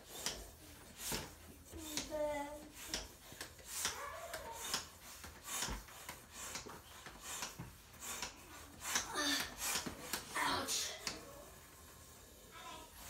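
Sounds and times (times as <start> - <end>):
hand pump puffing air: 0.0 - 11.2.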